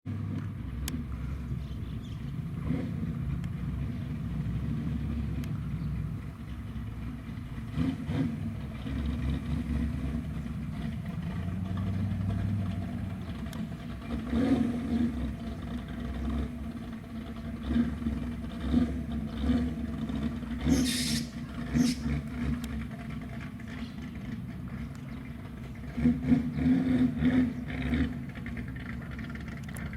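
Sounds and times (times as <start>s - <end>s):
car engines idling: 0.1s - 29.9s
engine crackle: 0.1s - 29.9s
engine revs: 0.1s - 29.9s.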